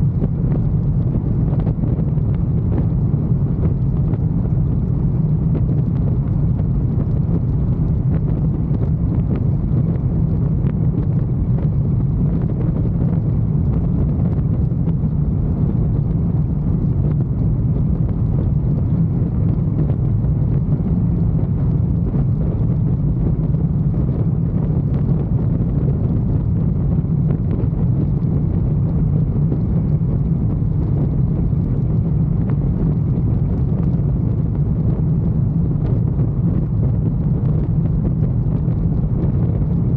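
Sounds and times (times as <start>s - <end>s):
rushing wind: 0.0s - 39.9s.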